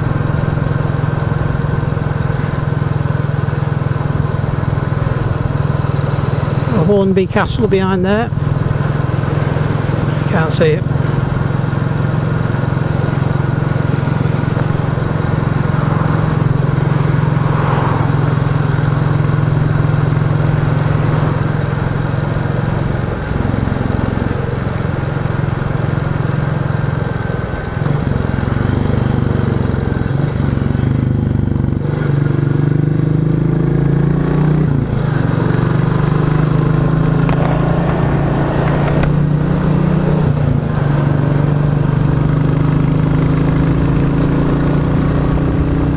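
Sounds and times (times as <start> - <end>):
motorcycle engine riding: 0.0 - 45.9.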